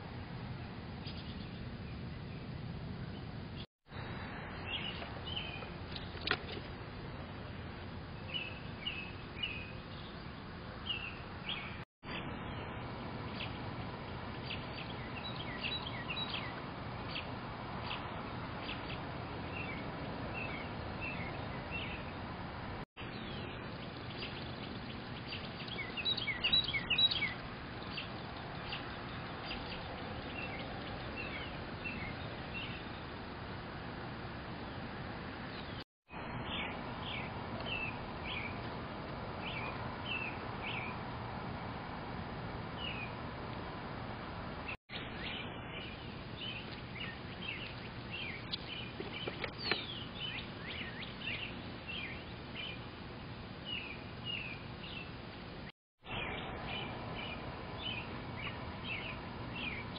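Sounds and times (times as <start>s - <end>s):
low background noise: 0.0s - 59.9s
songbirds chirping: 0.1s - 59.9s.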